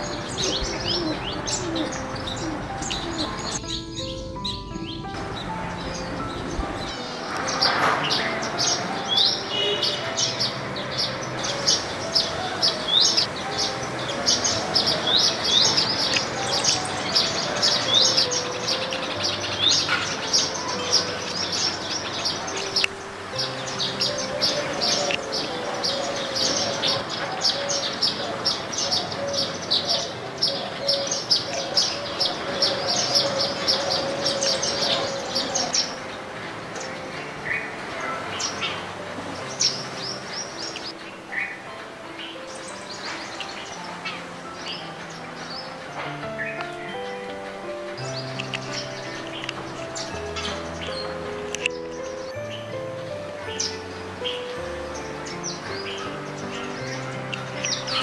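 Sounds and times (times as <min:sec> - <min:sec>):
flock of birds chirping: 0:00.0 - 0:58.0.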